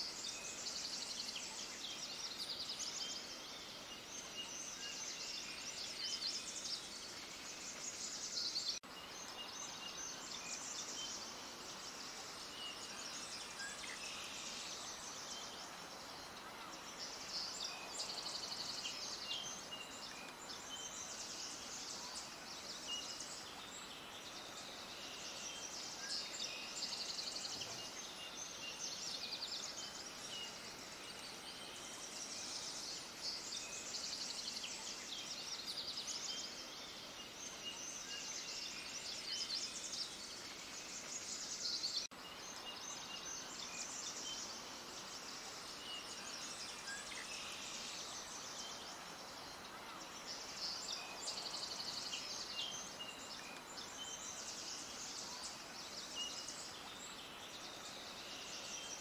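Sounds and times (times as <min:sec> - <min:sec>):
soft background hiss: 0:00.0 - 0:59.0
songbirds chirping and trilling: 0:00.0 - 0:59.0.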